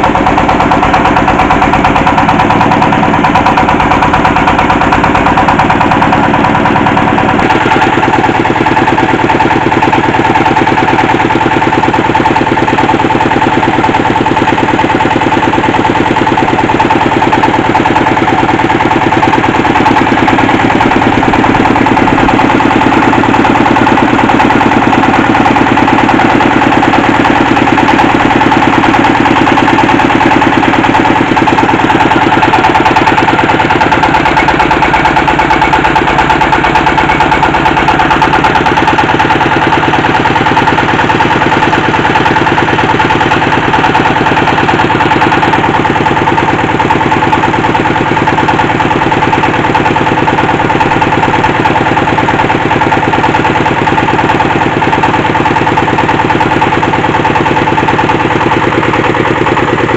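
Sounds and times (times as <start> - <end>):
well-drilling machine engine: 0.0 - 59.9.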